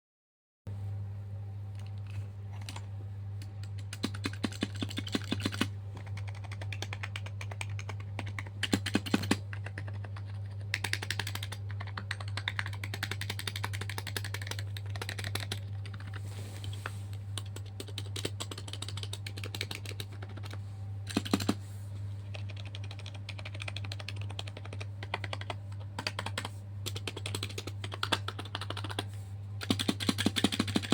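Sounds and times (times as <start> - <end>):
steady low hum: 0.7 - 30.9
keyboard typing clicks: 3.4 - 16.2, 17.4 - 21.6, 22.3 - 30.9.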